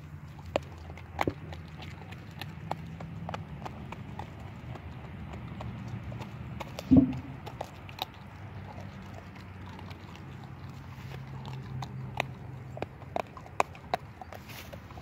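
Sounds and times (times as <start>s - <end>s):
low steady hum: 0.0s - 15.0s
puppy chewing crunchy fish: 0.0s - 15.0s.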